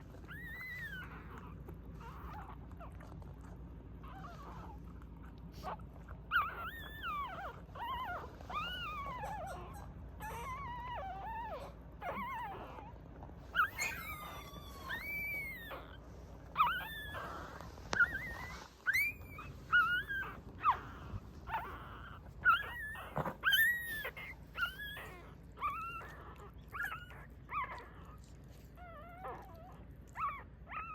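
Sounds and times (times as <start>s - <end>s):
small dog whining: 0.0s - 30.9s.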